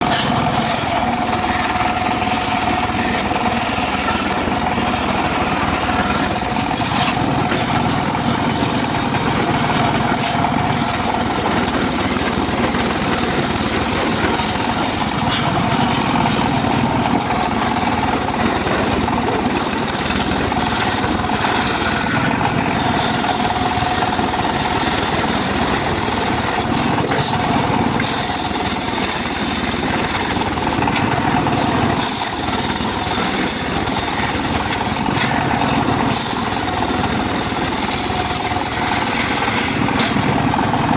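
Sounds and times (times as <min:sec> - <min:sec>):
circular saw cutting wood: 0:00.0 - 0:40.9.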